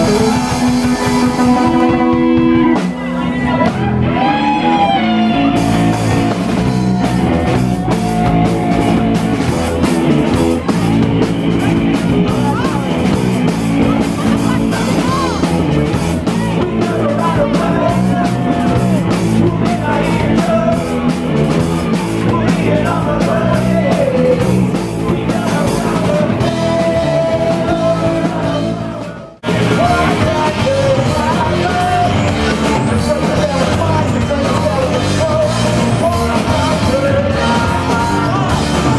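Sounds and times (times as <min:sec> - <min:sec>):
bass guitar: 0:00.0 - 0:38.9
drums: 0:00.0 - 0:38.9
electric guitar: 0:00.0 - 0:38.9
keyboard: 0:00.0 - 0:38.9
person singing: 0:00.0 - 0:38.9.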